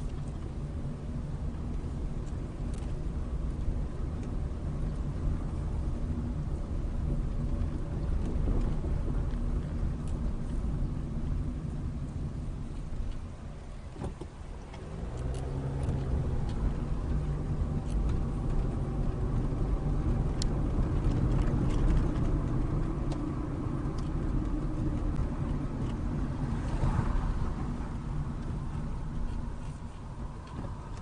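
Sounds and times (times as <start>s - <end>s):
car engine: 0.0s - 31.0s.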